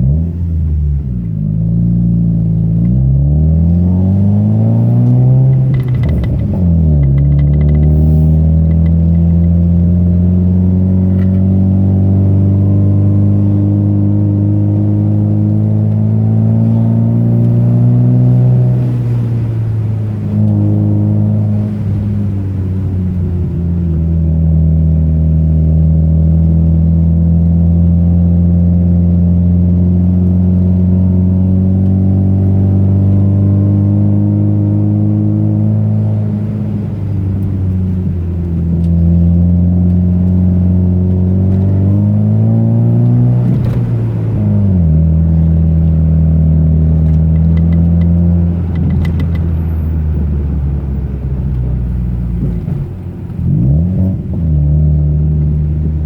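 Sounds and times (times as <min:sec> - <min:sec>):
car engine while driving: 0:00.0 - 0:56.0.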